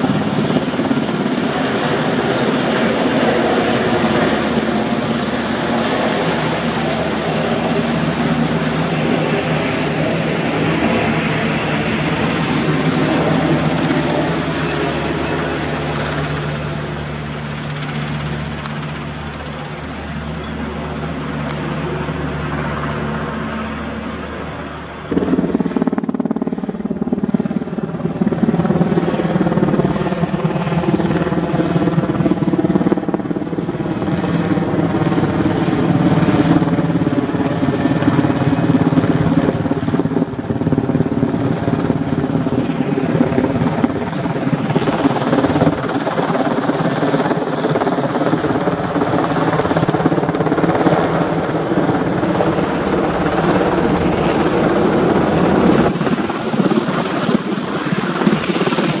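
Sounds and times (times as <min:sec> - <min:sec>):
helicopter flying overhead: 0:00.0 - 0:59.0.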